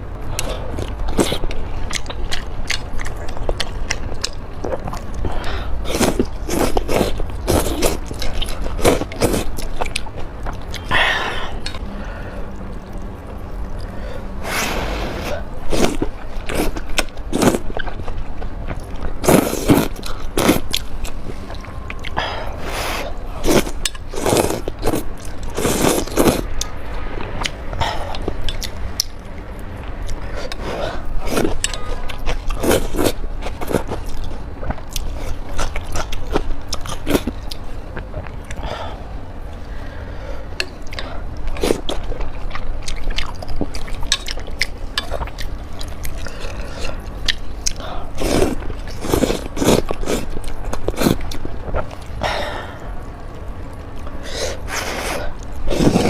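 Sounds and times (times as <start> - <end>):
chewing and biting noodles: 0.3 - 11.0, 14.7 - 22.2, 23.1 - 26.7, 29.8 - 38.7, 40.8 - 56.0.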